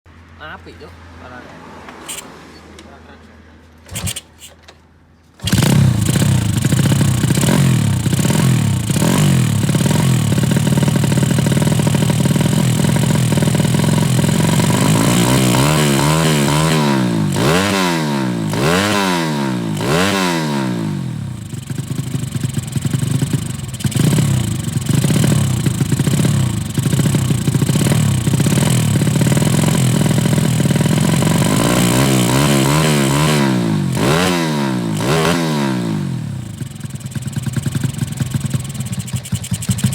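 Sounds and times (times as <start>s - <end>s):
motorcycle engine idling and revving: 1.2s - 2.9s, 3.8s - 4.7s, 5.4s - 39.9s.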